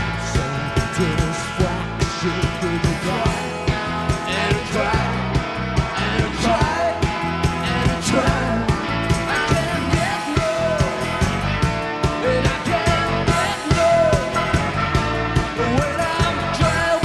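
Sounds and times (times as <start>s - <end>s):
rock band playing live: 0.0s - 17.0s
steady drum beat: 0.0s - 17.0s.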